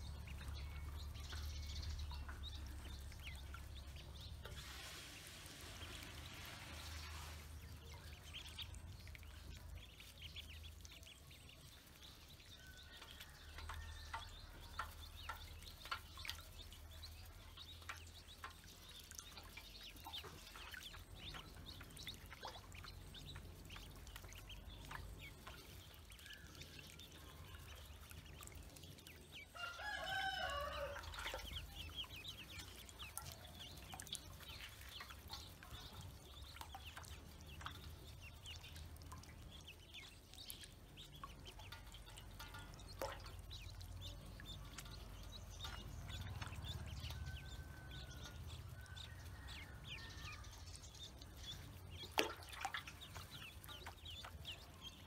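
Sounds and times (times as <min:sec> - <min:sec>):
ducklings chirping: 0:00.0 - 0:55.0
ducklings splashing in water: 0:00.0 - 0:55.0
water dripping: 0:00.0 - 0:55.0.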